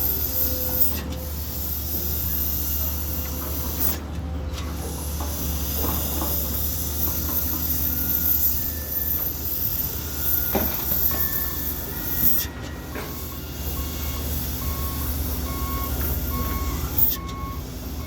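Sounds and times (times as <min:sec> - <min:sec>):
truck engine droning: 0:00.0 - 0:18.0.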